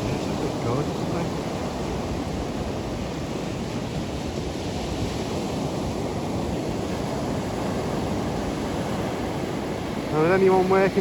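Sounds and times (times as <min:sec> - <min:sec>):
sea waves washing on beach: 0:00.0 - 0:11.0
wind blowing across microphone: 0:00.0 - 0:11.0.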